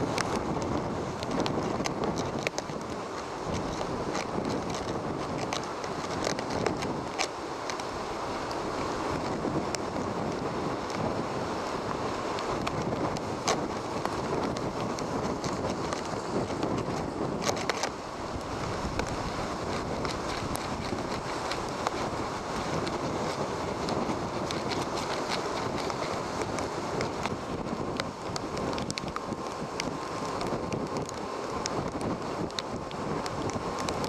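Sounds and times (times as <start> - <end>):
heavy surf washing: 0.0 - 34.0
wind blowing across microphone: 0.0 - 34.0.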